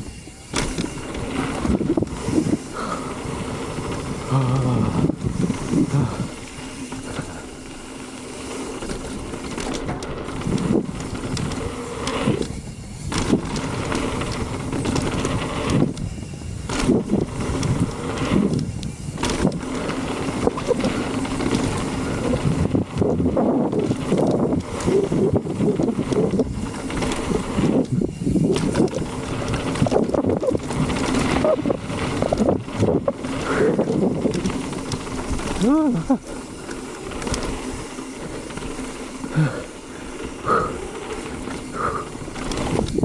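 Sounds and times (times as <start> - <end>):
wind buffeting microphone: 0.0 - 6.5, 10.1 - 36.3, 40.3 - 43.0
bike tyre and frame rattle: 0.0 - 43.0.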